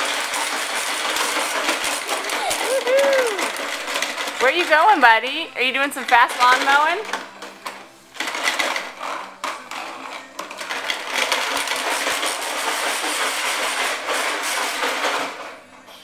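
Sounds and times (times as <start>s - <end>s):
toy lawn mower rattling on tile: 0.0s - 15.7s.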